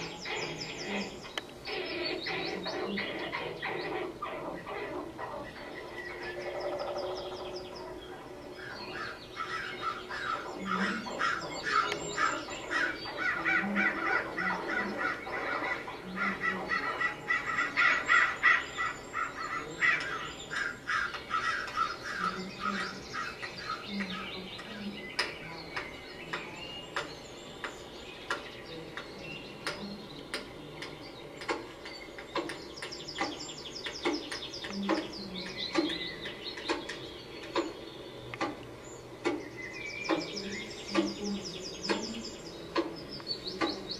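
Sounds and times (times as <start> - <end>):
birds chattering chirps: 0.0 - 43.9
low bird calls: 0.0 - 43.9.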